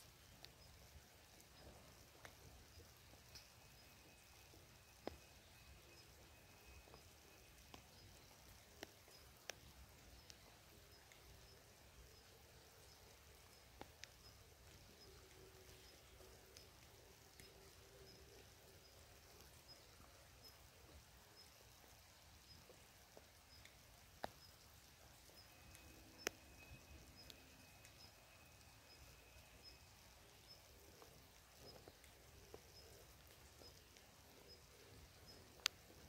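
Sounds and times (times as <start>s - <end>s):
rain hissing in a forest: 0.0s - 36.0s
water drips: 0.0s - 36.0s
faint high chirp: 0.4s - 20.8s, 23.5s - 36.0s.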